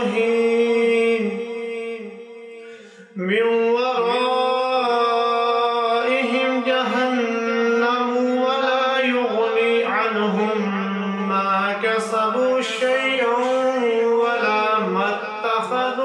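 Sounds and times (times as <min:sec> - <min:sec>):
man reciting in melodic chant: 0:00.0 - 0:16.0.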